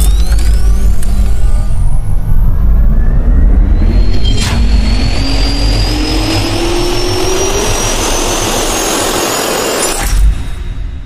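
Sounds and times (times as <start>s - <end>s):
jet turbine spooling up: 0.0s - 10.5s.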